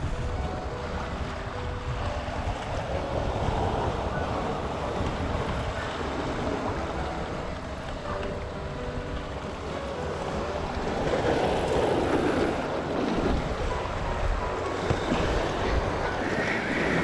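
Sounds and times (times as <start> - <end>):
sea surf washing against rocks: 0.0 - 17.0
wind buffeting microphone: 0.0 - 17.0.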